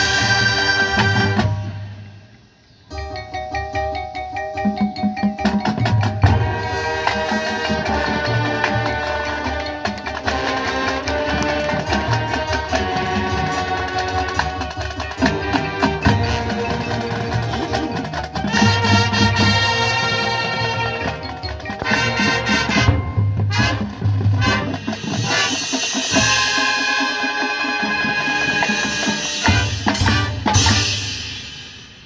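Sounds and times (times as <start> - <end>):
brass and woodwinds: 0.0 - 2.2, 6.2 - 31.6
drums: 0.0 - 32.0
mallet percussion: 2.9 - 31.9.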